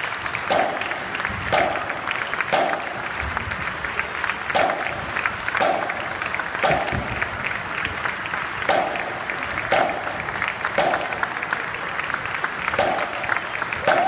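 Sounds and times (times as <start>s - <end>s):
crowd applauding and cheering: 0.0s - 14.0s
loud beat: 0.0s - 14.0s.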